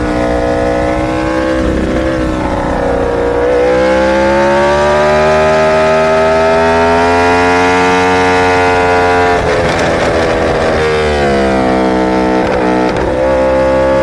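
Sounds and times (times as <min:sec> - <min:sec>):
motorcycle engine under throttle: 0:00.0 - 0:14.0.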